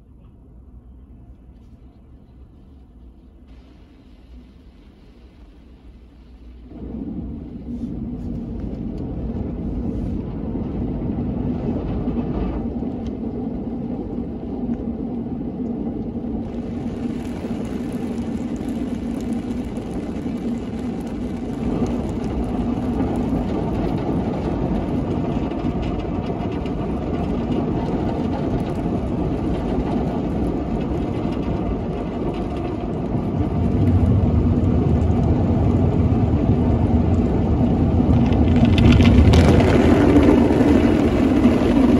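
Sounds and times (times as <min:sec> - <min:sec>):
deep rumble: 0:00.0 - 0:41.9
car wash machine hum: 0:01.1 - 0:41.9
water spraying on car: 0:03.5 - 0:41.9.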